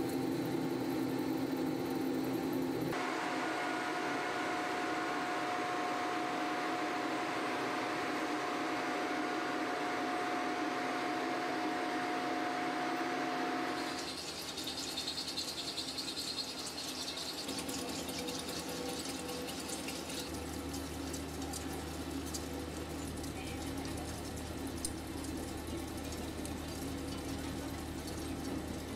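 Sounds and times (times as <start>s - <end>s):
machine hum: 0.0s - 28.9s.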